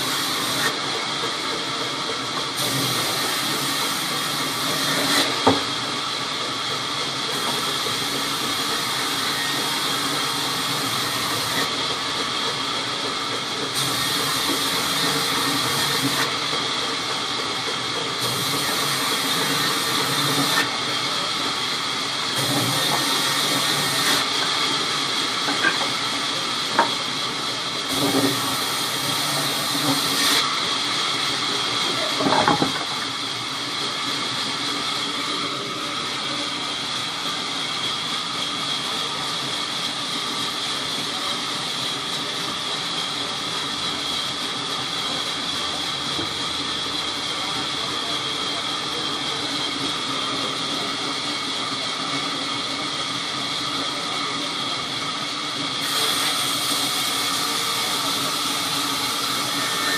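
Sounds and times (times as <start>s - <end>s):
band saw whirring: 0.0s - 51.8s, 55.8s - 59.9s.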